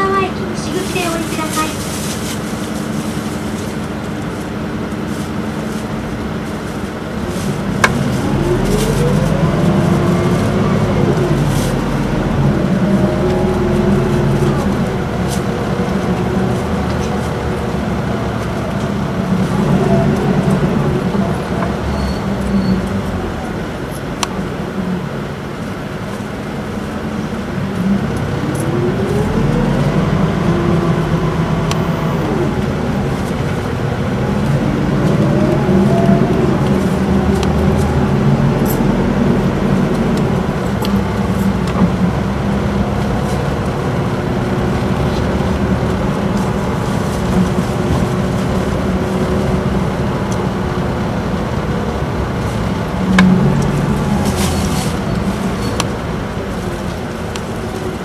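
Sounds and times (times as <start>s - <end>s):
bus engine accelerating: 0.0s - 58.0s.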